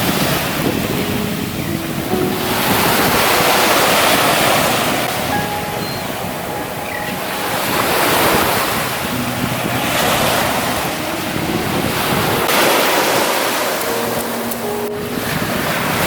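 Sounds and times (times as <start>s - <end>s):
ocean surf washing onto beach: 0.0s - 16.0s
wind buffeting microphone: 0.0s - 16.0s.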